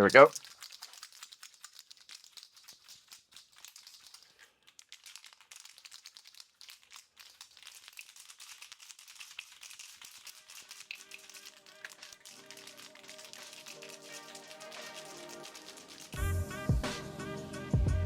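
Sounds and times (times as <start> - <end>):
aerosol can mixing ball rattling: 0.0 - 17.4.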